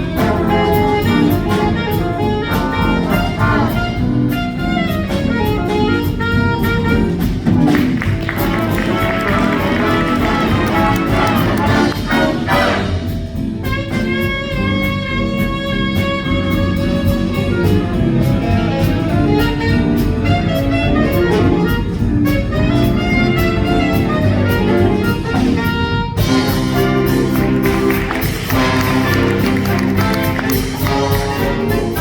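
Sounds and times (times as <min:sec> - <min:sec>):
big band jazz: 0:00.0 - 0:32.0
drum and cymbal beat: 0:00.0 - 0:32.0
horns playing: 0:00.0 - 0:32.0.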